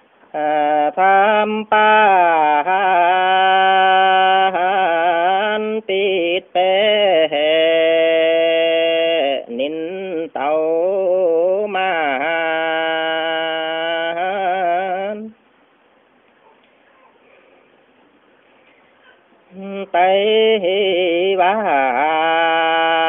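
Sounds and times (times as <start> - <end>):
man singing folk song: 0.2 - 15.4, 19.5 - 23.0.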